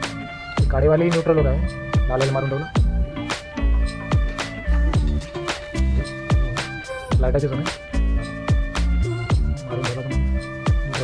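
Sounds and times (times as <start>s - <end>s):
background music with kick drum: 0.0s - 11.0s.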